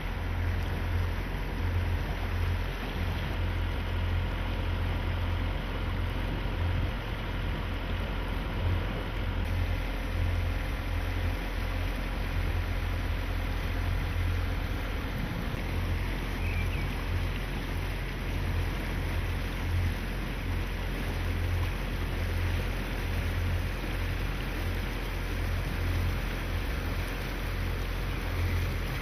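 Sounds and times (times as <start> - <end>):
motorboat engine drone: 0.0 - 29.0
water noise: 0.0 - 29.0.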